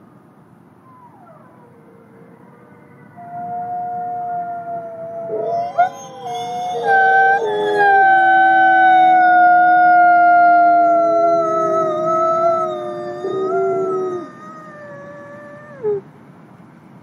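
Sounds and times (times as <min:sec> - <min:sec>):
wolves howling: 0:00.8 - 0:16.0.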